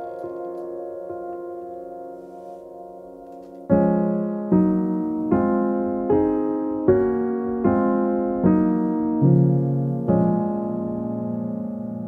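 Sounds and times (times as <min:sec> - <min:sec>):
keyboard chords ringing: 0:00.0 - 0:12.0.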